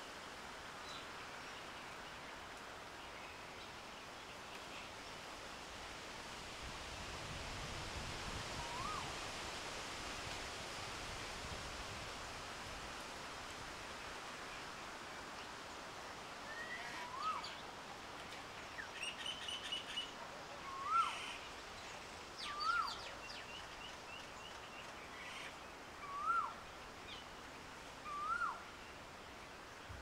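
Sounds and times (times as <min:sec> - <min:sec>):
outdoor hiss: 0:00.0 - 0:30.0.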